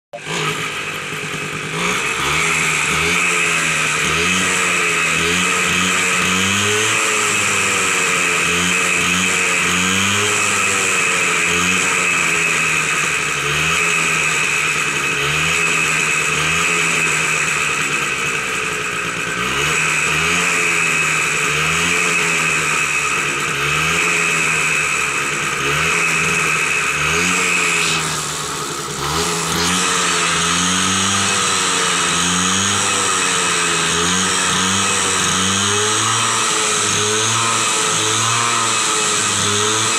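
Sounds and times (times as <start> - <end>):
moped engine revving: 0.0 - 39.9.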